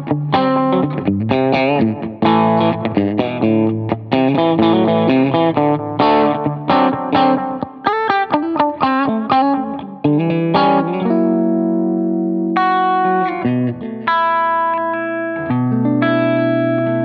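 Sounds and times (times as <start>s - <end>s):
electric guitar phrase: 0.0s - 17.0s.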